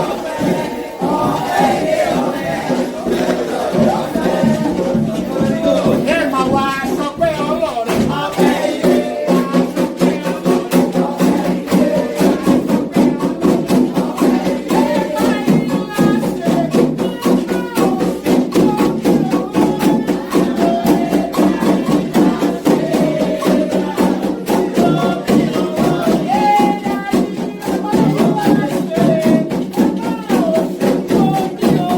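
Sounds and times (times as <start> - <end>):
group singing: 0.0 - 31.9
hand drums playing: 0.0 - 31.9
struck bell rhythm: 0.0 - 31.9.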